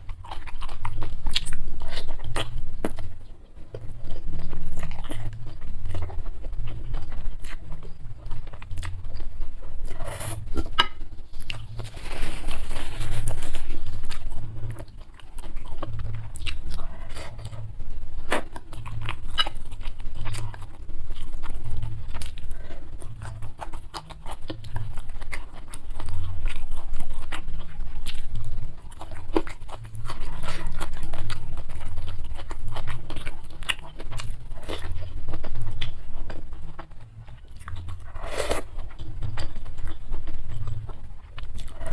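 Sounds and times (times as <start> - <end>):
chewing with wet mouth noises: 0.0 - 41.9.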